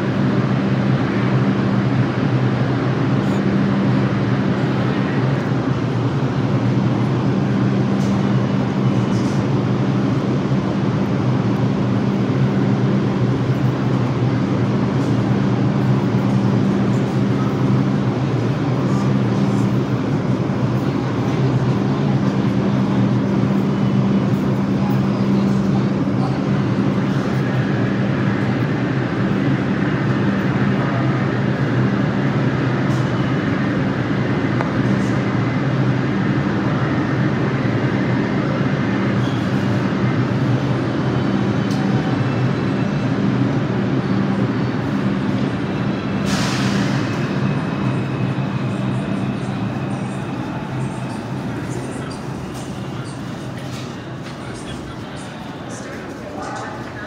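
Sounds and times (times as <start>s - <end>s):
subway train rumbling: 0.0s - 57.0s.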